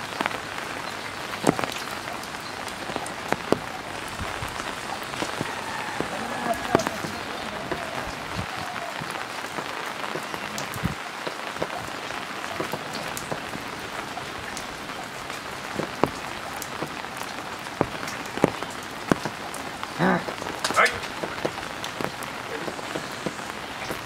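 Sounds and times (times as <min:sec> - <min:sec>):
raindrops striking close by: 0:00.0 - 0:24.0
steady rain: 0:00.0 - 0:24.0.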